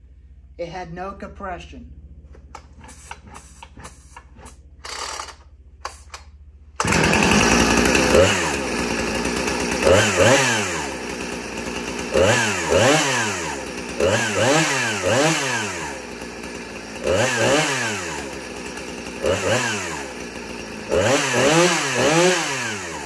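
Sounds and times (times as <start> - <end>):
chainsaw revving: 2.6 - 23.0.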